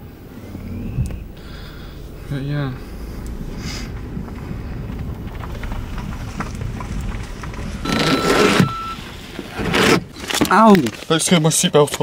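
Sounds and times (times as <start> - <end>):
noisy burst: 0.0 - 10.4
engine and road rumble: 0.0 - 12.0.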